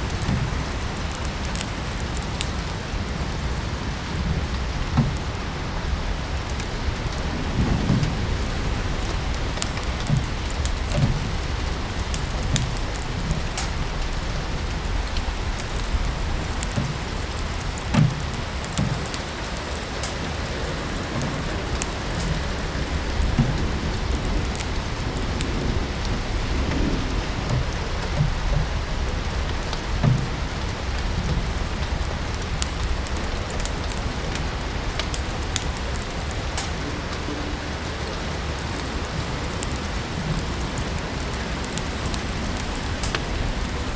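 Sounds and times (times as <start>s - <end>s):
rain hissing: 0.0s - 43.9s
wood fire crackling and popping: 0.0s - 43.9s
low rumble: 2.9s - 39.3s.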